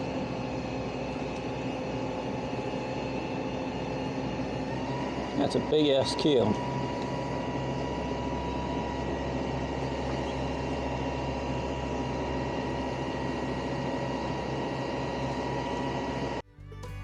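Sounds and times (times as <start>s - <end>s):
crane engine and hydraulics whining: 0.0s - 17.0s.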